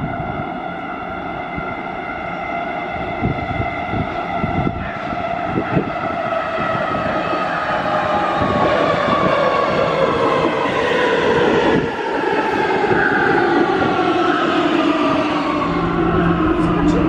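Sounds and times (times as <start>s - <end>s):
train high whine: 0.0s - 17.0s
train rumble: 0.0s - 17.0s.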